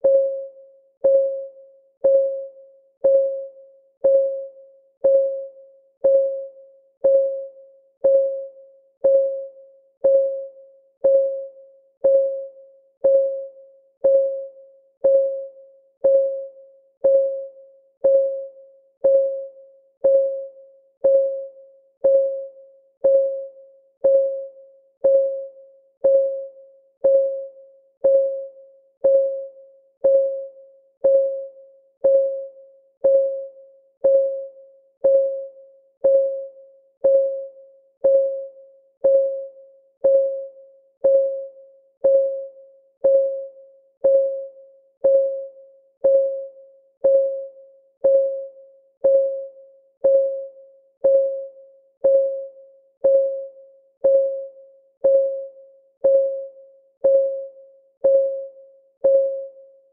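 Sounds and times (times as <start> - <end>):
timer ticking: 0.0 - 59.6.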